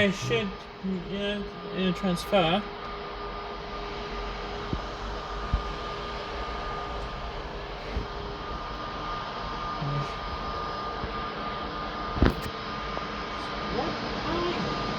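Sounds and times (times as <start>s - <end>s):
jet engines running: 0.0s - 14.9s.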